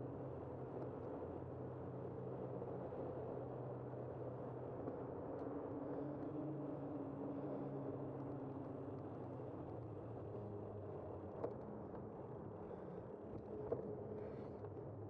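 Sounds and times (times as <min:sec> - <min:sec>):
road noise with engine hum: 0:00.0 - 0:15.0.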